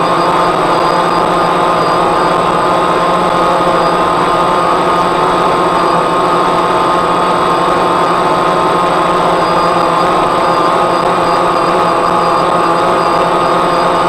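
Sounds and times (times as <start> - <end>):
drone propellers buzzing whine: 0.0 - 14.0.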